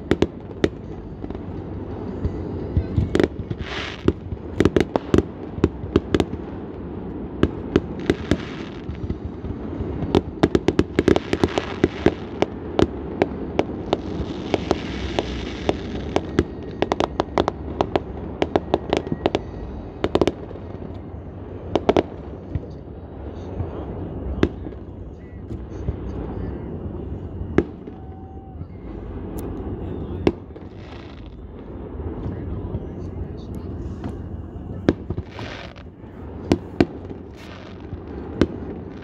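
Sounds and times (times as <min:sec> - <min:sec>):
fireworks bangs and pops: 0:00.0 - 0:21.1, 0:21.7 - 0:22.8, 0:23.4 - 0:26.4, 0:27.6 - 0:39.0
crackling firework shells: 0:00.0 - 0:26.5, 0:27.6 - 0:39.0.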